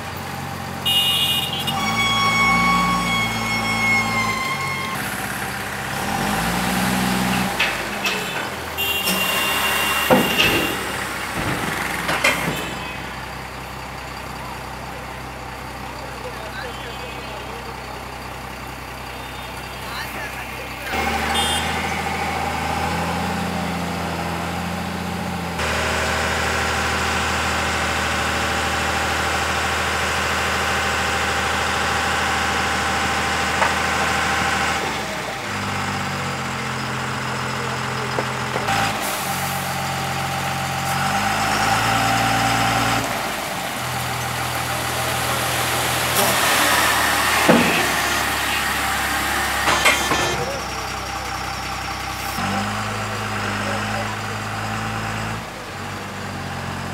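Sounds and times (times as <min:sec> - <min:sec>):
diesel truck engine running: 0:00.0 - 0:56.9.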